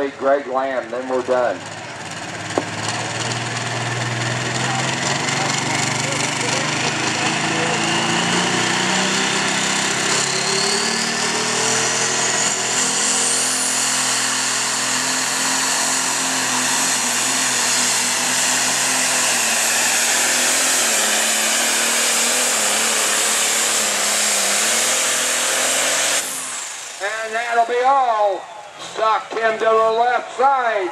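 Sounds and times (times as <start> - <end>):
diesel engine at full throttle: 0.0 - 30.8.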